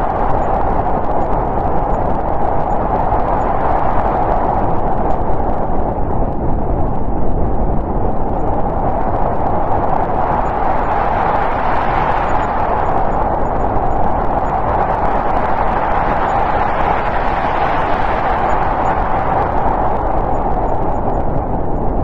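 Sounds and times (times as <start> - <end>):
snowstorm wind rushing: 0.0 - 22.0.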